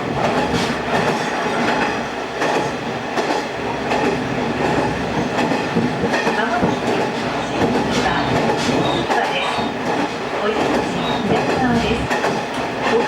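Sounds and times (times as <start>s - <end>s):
train engine and rolling noise: 0.0s - 13.0s.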